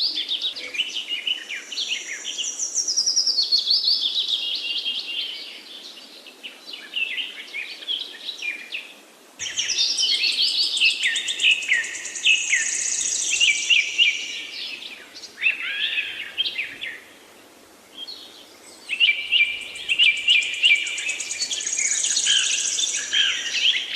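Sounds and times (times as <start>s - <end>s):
songbirds chirping and trilling: 0.0s - 23.9s.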